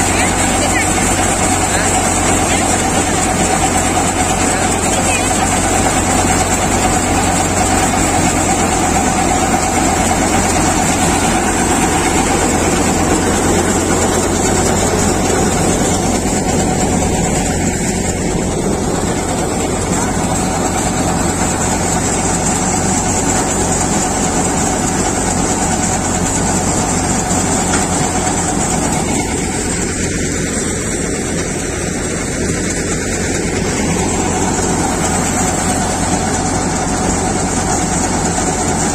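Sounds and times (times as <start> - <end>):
low engine hum: 0.0 - 38.9
thresher drone and whine: 0.0 - 38.9.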